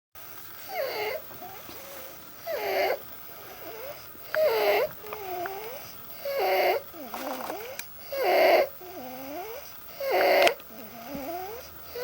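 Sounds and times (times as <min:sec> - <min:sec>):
child breathing with stridor: 0:00.6 - 0:12.0.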